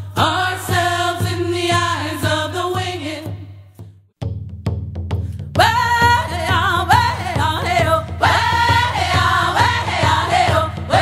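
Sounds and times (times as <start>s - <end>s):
song with sung voices and beat: 0.0s - 4.0s, 5.2s - 11.0s.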